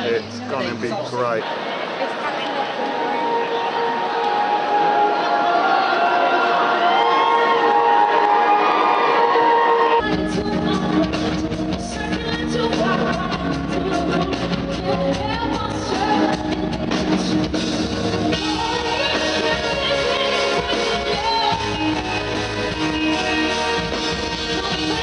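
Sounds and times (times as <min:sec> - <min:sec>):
rock music with singer: 0:03.2 - 0:25.0.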